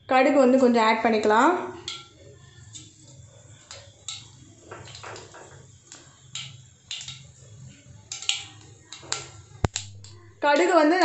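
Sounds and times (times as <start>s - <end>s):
seeds popping in hot oil: 1.3s - 11.0s.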